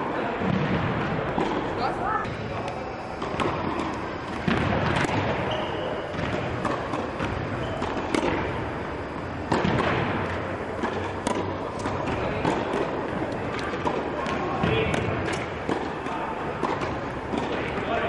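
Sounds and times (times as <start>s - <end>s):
tennis balls bouncing on court: 0.4s - 18.0s
tennis balls struck by rackets: 0.4s - 18.0s.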